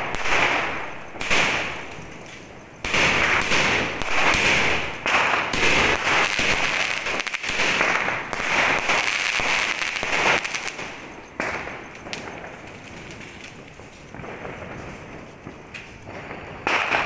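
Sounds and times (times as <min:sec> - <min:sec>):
firework shells firing: 0:00.0 - 0:17.0
hissing crackling sparks: 0:00.0 - 0:17.0.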